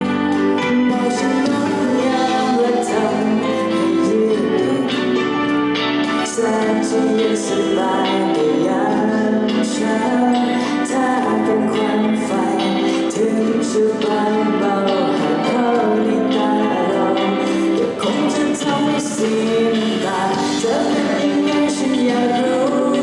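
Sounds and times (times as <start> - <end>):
person singing with live band: 0.0 - 23.0.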